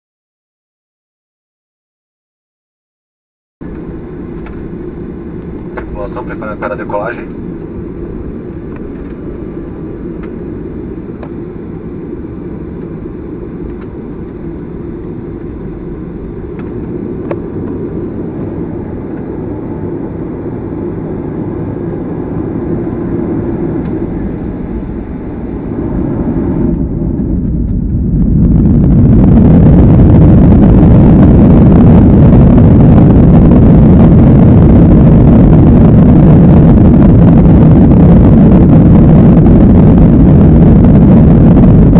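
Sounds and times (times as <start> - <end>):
jet engines in aircraft cabin: 3.6 - 41.9.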